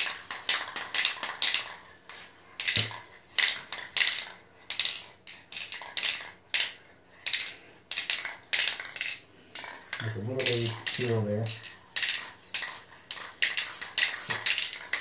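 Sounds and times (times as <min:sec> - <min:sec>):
spray paint can bursts: 0:00.0 - 0:15.0.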